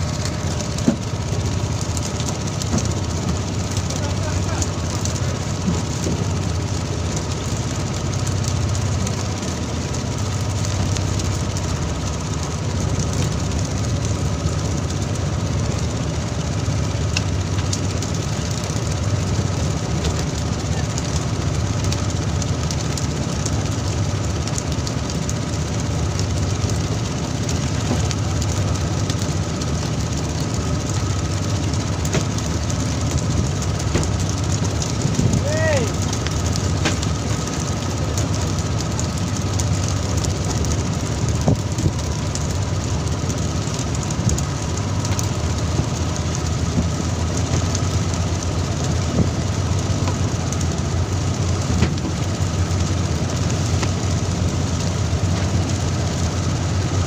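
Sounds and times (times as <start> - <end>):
boat engine droning: 0.0 - 57.0
water spraying and splashing: 0.0 - 57.0.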